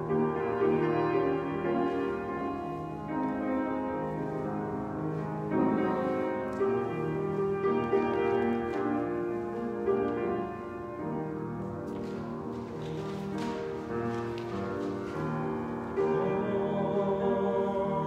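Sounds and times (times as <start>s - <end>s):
piano playing slow hymn: 0.0s - 18.0s.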